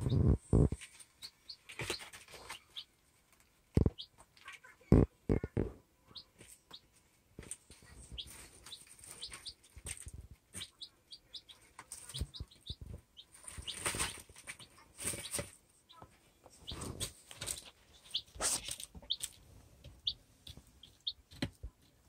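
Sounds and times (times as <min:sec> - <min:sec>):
baby chicks peeping: 0:00.0 - 0:22.0
chicks pecking and scratching shavings: 0:00.0 - 0:22.0.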